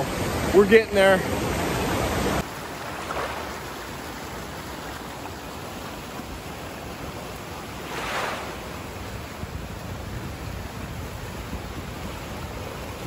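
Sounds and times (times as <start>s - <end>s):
creek rushing over boulders: 0.0s - 13.0s.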